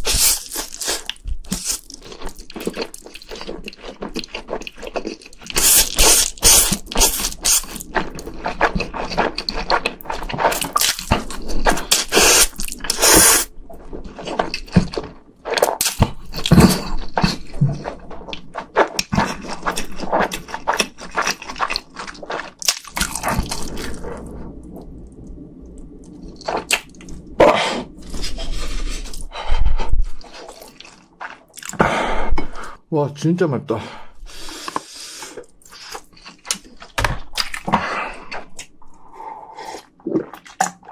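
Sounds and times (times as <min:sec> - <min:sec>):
wet chewing and smacking: 0:00.0 - 0:31.8, 0:34.5 - 0:40.9.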